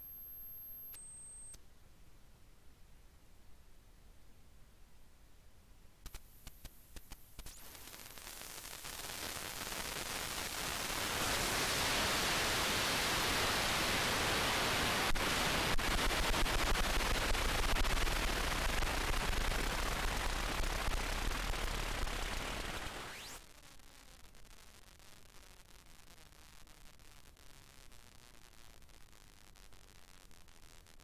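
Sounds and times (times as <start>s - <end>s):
loud static hiss: 0.0s - 1.5s, 6.0s - 31.0s.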